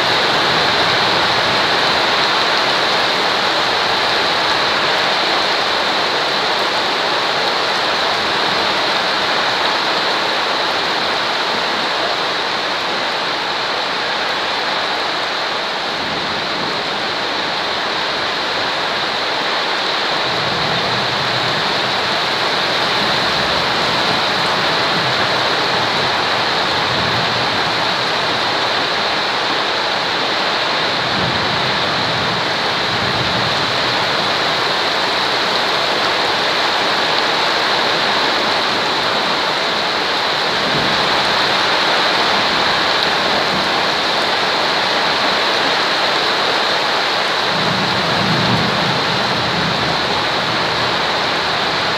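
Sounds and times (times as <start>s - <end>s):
steady rain hiss: 0.0s - 51.9s.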